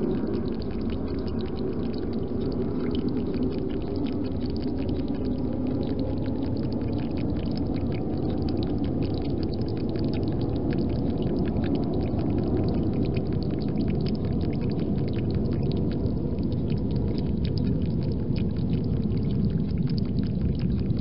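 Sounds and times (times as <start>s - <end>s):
hedgehog lapping water: 0.0s - 21.0s
low background rumble: 0.0s - 21.0s.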